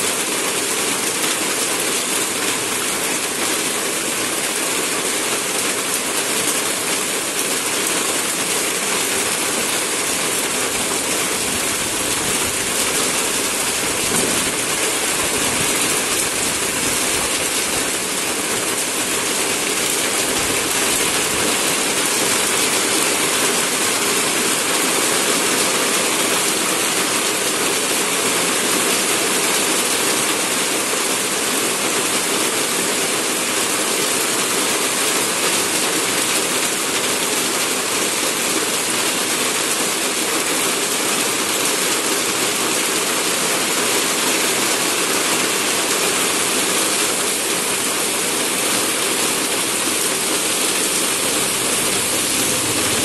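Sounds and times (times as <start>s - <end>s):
heavy rain pouring on foliage: 0.0s - 53.0s.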